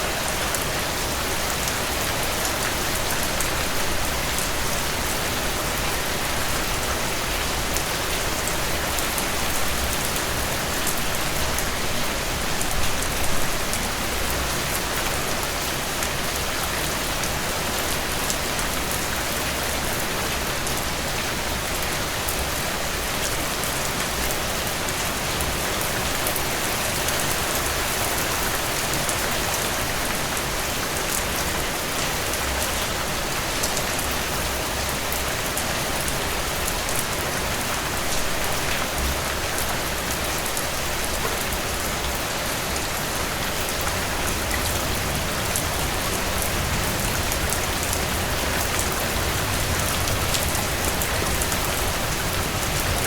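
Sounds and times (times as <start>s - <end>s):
heavy rain on a porch: 0.0s - 53.0s.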